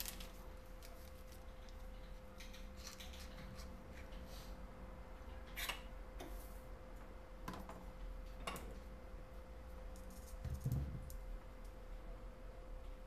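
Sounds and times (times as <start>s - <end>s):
steady faint hum: 0.0s - 13.0s.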